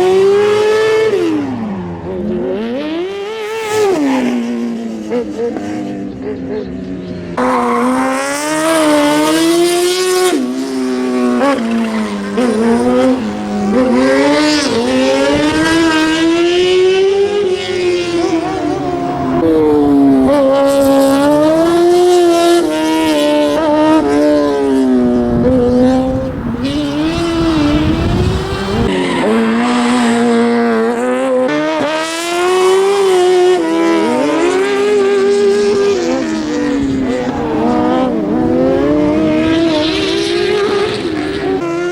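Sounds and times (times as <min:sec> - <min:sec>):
racing car engine revving: 0:07.4 - 0:41.9.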